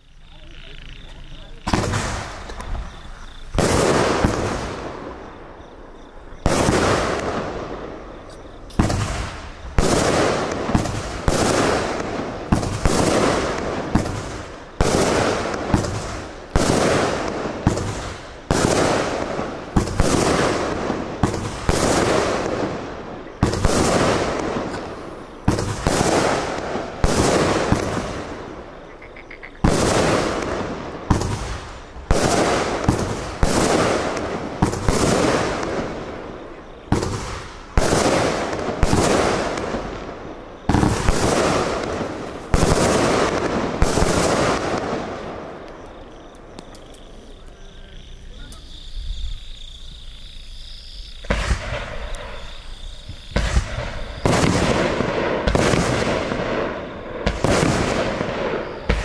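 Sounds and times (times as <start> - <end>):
firework hiss: 1.0 - 5.6, 6.4 - 28.7, 29.6 - 47.6, 48.3 - 59.0
firework shots banging: 1.6 - 5.4, 6.4 - 28.7, 29.6 - 47.1, 51.2 - 59.0.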